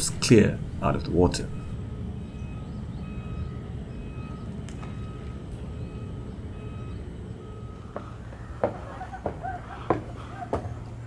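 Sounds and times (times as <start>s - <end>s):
reversing alarm beeping: 1.3s - 11.0s.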